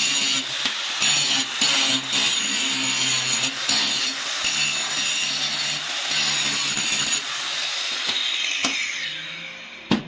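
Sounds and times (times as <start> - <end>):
drill bit grinding hiss: 0.0 - 9.7.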